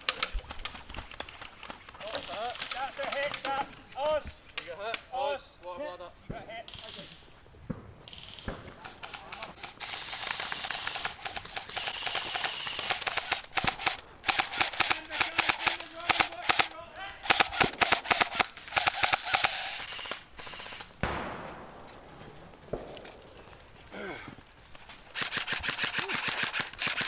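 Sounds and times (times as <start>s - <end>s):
airsoft guns firing bursts: 0.0s - 5.1s, 6.2s - 27.0s.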